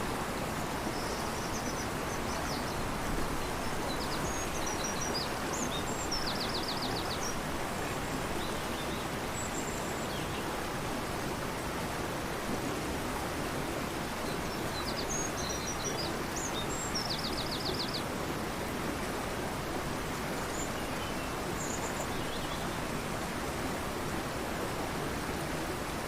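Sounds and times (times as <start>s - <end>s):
torrential river rushing: 0.0s - 26.0s.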